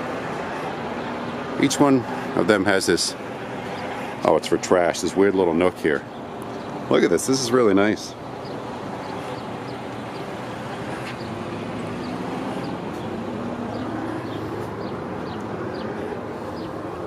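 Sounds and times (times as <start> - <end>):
diesel trucks idling: 0.0 - 17.0.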